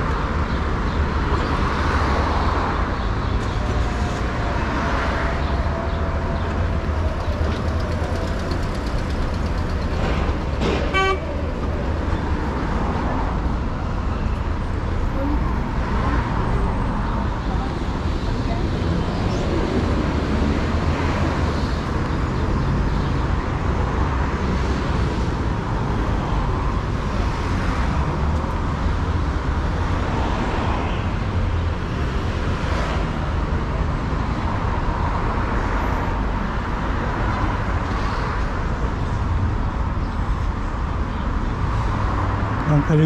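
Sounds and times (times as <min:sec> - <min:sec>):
busy road traffic rumble: 0:00.0 - 0:43.0.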